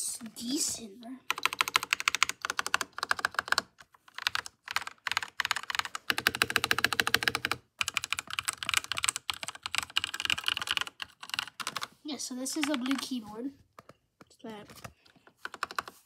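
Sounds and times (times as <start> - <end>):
mechanical keyboard typing: 1.3 - 13.2, 14.7 - 16.0.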